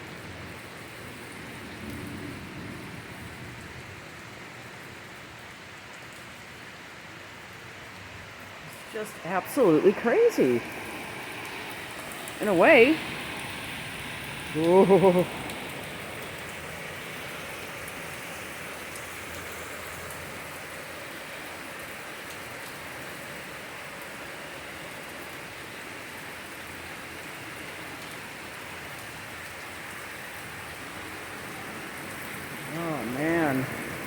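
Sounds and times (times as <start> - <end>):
heavy rain splashing: 0.0 - 34.0.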